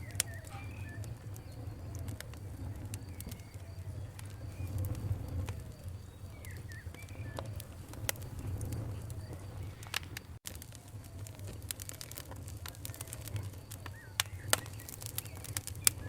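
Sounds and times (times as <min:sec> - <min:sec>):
bird chirps: 0:00.0 - 0:10.4, 0:12.0 - 0:16.0
campfire crackling and popping: 0:00.0 - 0:16.0.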